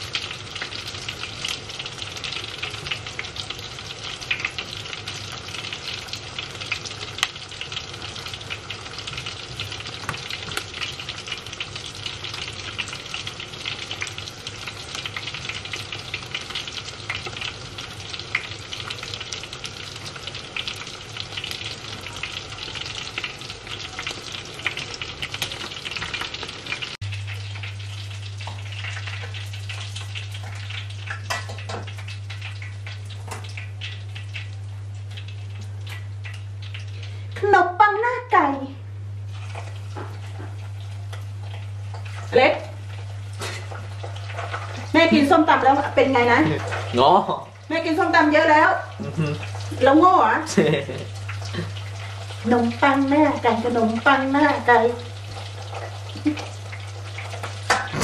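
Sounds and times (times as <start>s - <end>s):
food deep-frying in hot oil: 0.0s - 58.0s.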